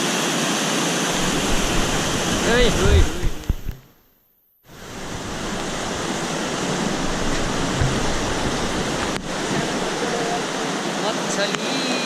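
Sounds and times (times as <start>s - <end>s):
rushing mountain stream: 0.0s - 3.9s, 4.7s - 12.0s.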